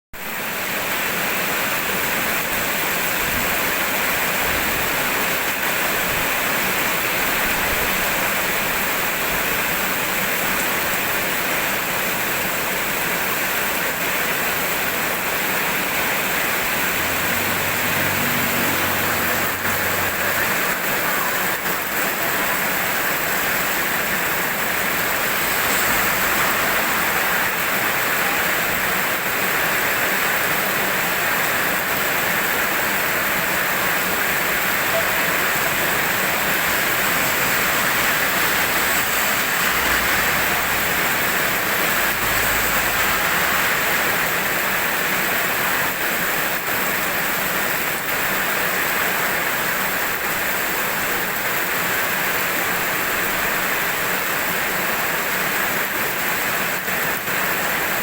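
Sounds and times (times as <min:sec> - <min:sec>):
steady rainfall: 0:00.1 - 0:58.0.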